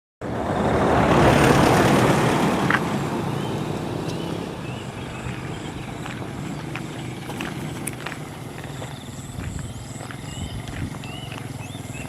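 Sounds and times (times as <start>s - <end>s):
vehicle passing by: 0.2s - 12.0s.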